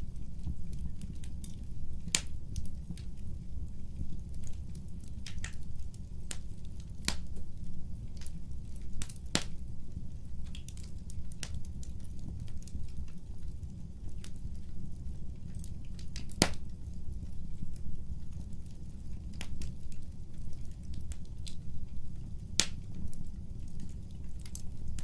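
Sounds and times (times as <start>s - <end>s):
low rumble of burning: 0.0s - 25.0s
wood fire pops and snaps: 0.4s - 3.2s, 3.9s - 25.0s.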